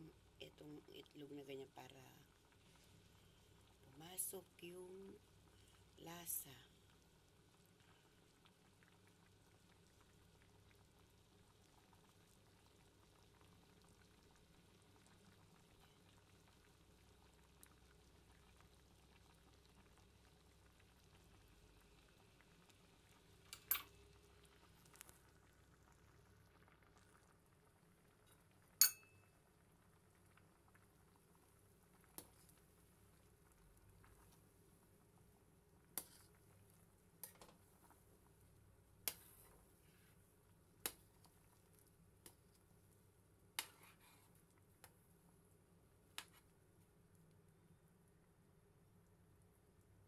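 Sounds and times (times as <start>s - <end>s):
broth bubbling in metal pot: 0.0s - 48.4s.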